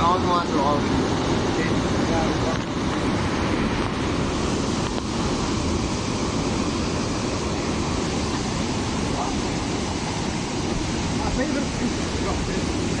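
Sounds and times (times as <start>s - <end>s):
ocean surf breaking on rocks: 0.0s - 13.0s
wind on microphone: 0.8s - 13.0s.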